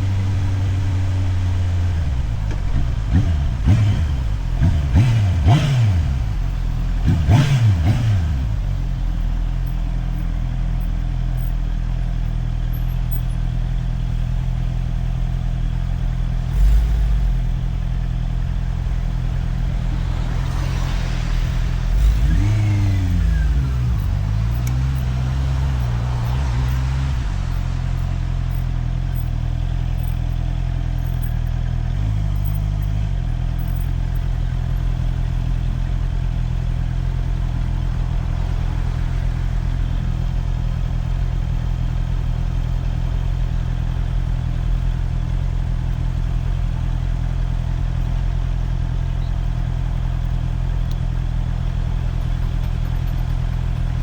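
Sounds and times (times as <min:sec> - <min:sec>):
motorcycle engine revving: 0:00.0 - 0:11.1, 0:13.6 - 0:54.0.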